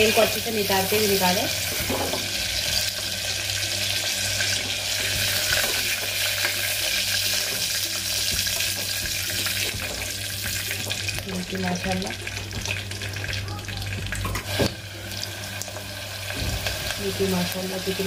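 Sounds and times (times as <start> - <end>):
frying in hot oil sizzle: 0.0 - 18.0.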